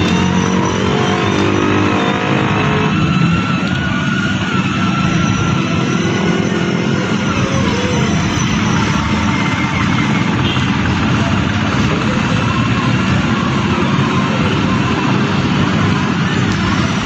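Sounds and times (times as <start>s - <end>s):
toy car motor whine: 0.0s - 2.1s, 2.7s - 17.0s.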